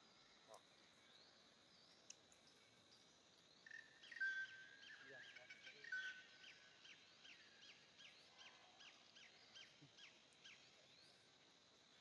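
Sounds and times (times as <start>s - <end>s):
faint high insect hum: 0.0s - 12.0s.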